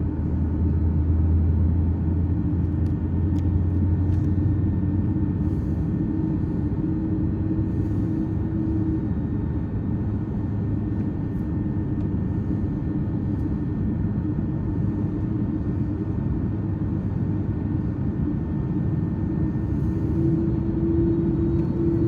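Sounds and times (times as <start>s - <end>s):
airliner cabin engine rumble: 0.0s - 22.0s
constant low hum: 0.0s - 22.0s.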